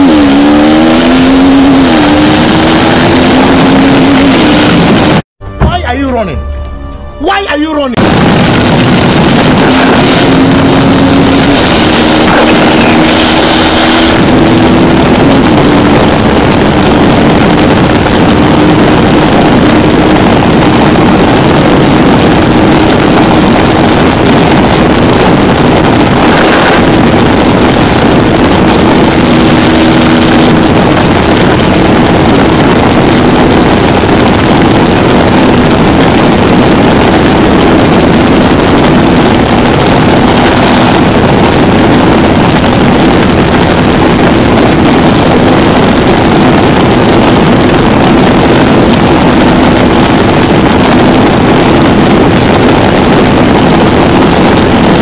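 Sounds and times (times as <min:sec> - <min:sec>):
motorcycle engine at high speed: 0:00.0 - 0:05.3, 0:08.0 - 0:55.0
wind buffeting on microphone: 0:08.0 - 0:55.0.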